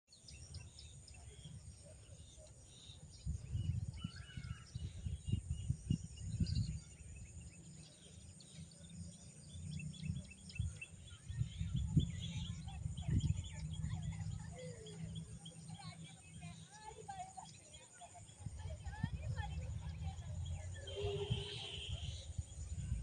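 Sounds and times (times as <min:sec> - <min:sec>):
small birds chirping: 0:00.1 - 0:23.0.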